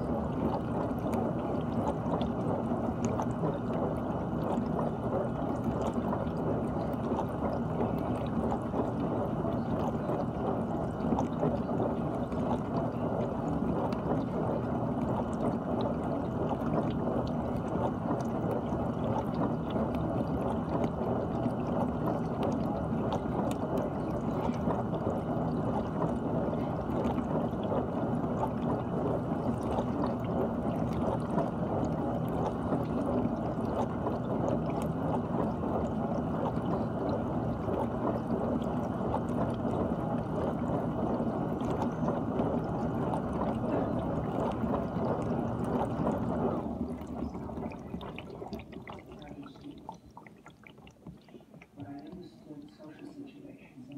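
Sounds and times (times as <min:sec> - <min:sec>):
low dishwasher hum: 0:00.0 - 0:53.9.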